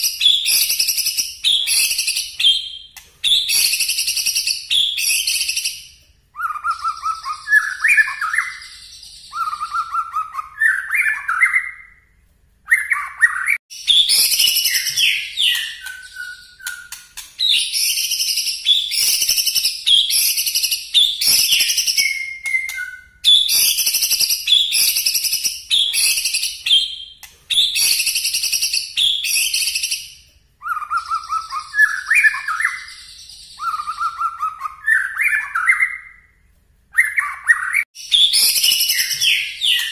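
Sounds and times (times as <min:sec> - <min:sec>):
bird singing rapid whistles: 0:00.0 - 0:12.1, 0:12.7 - 0:39.9.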